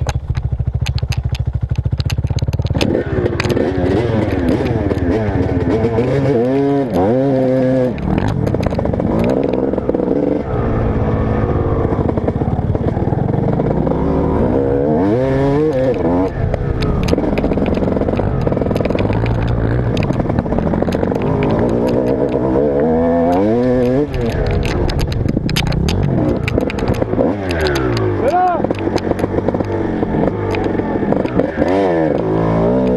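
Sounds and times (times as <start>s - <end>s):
sharp clicks and rattles: 0.0s - 32.9s
motocross bike engine revving: 0.1s - 32.9s.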